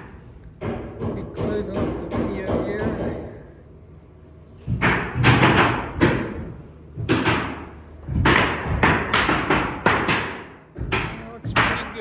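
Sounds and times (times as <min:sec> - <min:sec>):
echoing thuds and knocks: 0:00.0 - 0:03.3, 0:04.6 - 0:12.0.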